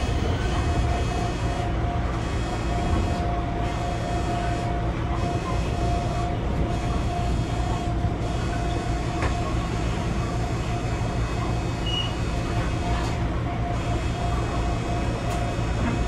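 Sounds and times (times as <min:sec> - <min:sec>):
steady motor whine: 0:00.0 - 0:16.0
train low rumble: 0:00.0 - 0:16.0.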